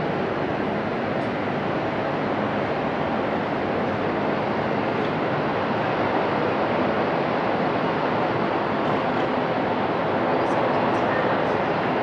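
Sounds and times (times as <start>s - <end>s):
distant jet engine rush: 0.0s - 12.0s.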